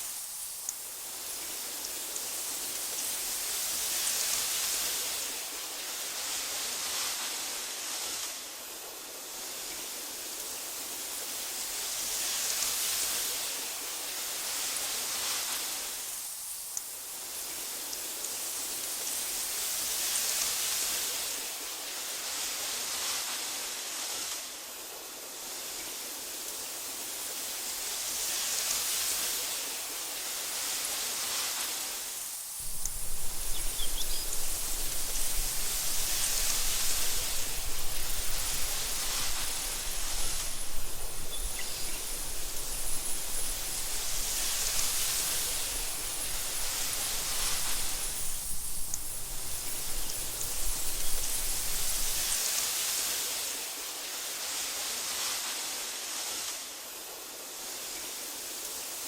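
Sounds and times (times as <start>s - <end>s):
wind through grass: 0.0s - 59.0s.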